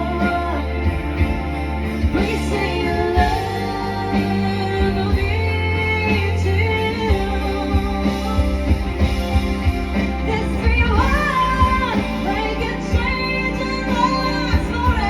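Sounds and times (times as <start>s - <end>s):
person singing: 0.0s - 9.3s, 9.9s - 15.0s
live band playing: 0.0s - 15.0s.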